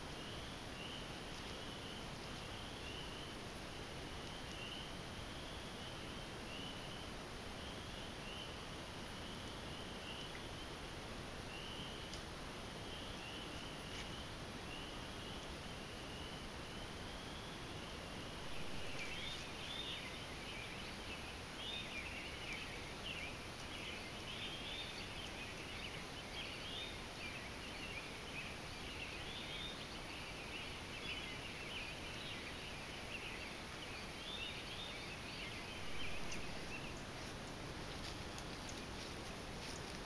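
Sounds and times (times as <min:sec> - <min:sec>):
microphone hiss: 0:00.0 - 0:40.0.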